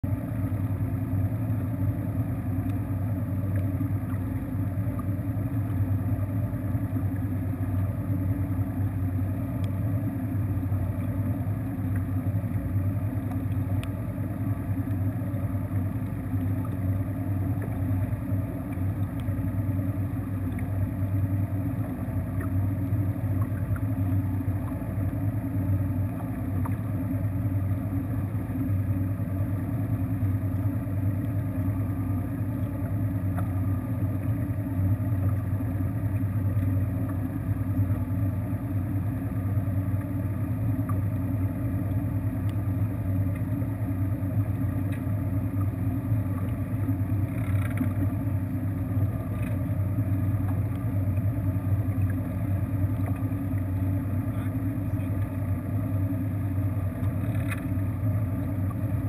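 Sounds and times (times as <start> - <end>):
outboard engine idling: 0.0 - 59.0.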